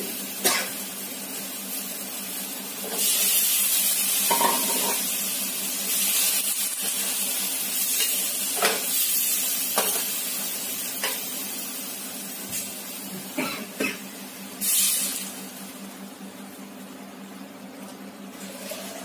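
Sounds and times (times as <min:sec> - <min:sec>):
vegetables sizzling in oil: 0:00.0 - 0:16.7.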